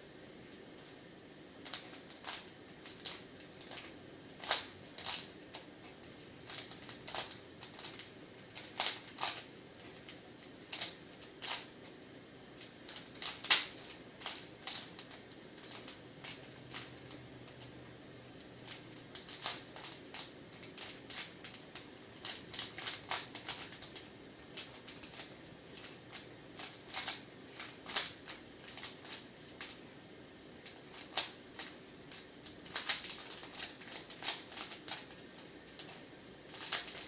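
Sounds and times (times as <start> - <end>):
puzzle cube clicking: 1.6 - 5.7, 6.4 - 11.7, 12.6 - 17.7, 18.7 - 29.8, 30.6 - 37.0.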